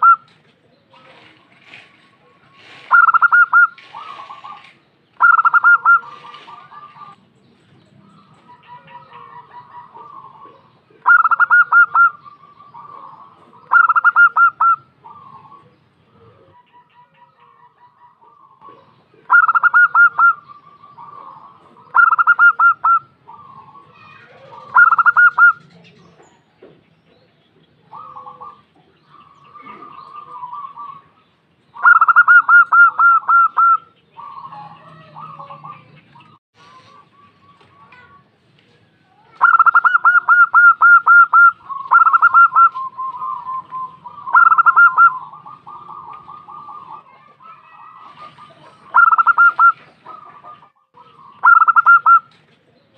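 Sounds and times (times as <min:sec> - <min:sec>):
soft dove coos: 0:02.2 - 0:07.2, 0:08.4 - 0:26.0, 0:27.8 - 0:31.2, 0:31.8 - 0:35.8, 0:39.3 - 0:47.3, 0:48.0 - 0:52.9
dove cooing in staccato bursts: 0:02.9 - 0:07.2, 0:08.4 - 0:25.8, 0:27.8 - 0:35.9, 0:39.4 - 0:52.3.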